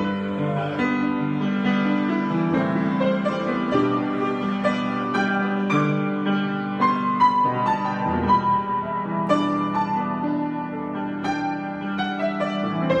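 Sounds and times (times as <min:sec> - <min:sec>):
solo piano improvisation: 0:00.0 - 0:13.0.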